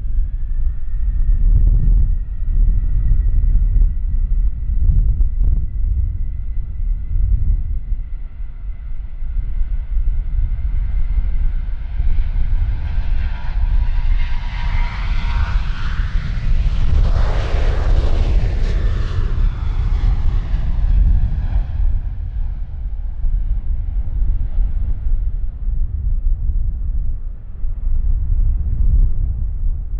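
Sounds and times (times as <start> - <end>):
jet engines at takeoff power: 0.0 - 29.9
wind buffeting microphone: 0.0 - 29.9.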